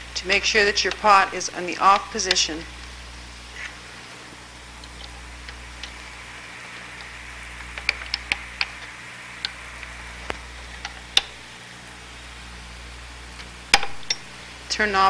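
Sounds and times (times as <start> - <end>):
low hum: 0.0 - 15.0
steady hiss: 0.0 - 15.0.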